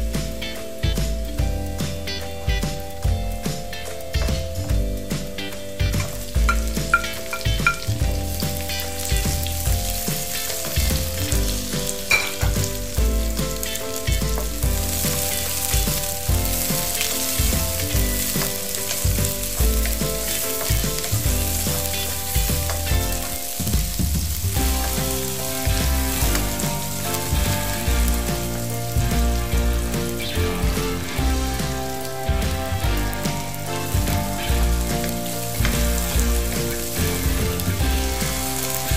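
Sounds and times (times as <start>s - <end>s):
onions sizzling in hot oil: 0.0s - 38.9s.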